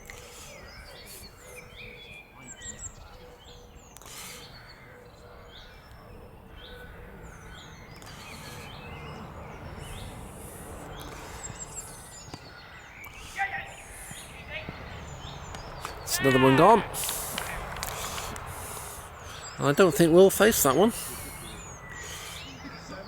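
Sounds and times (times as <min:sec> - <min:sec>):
low background noise: 0:00.0 - 0:23.0
small birds chirping: 0:00.0 - 0:23.0.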